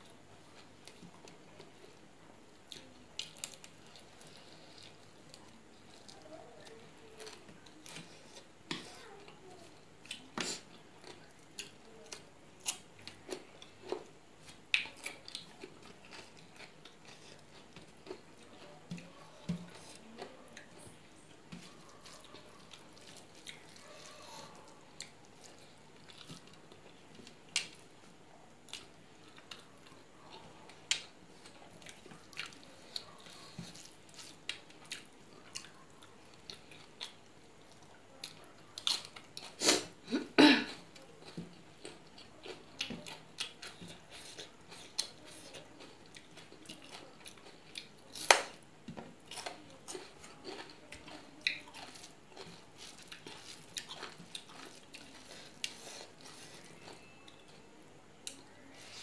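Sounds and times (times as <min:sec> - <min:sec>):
chewing with mouth clicks: 0:00.5 - 0:09.4, 0:10.0 - 0:28.0, 0:28.6 - 0:39.8, 0:40.7 - 0:57.6.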